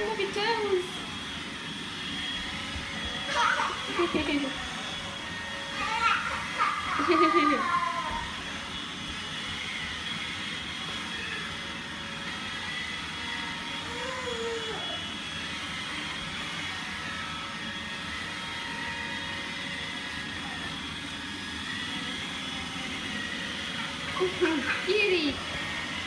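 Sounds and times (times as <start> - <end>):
robot vacuum whirring: 0.0 - 26.0.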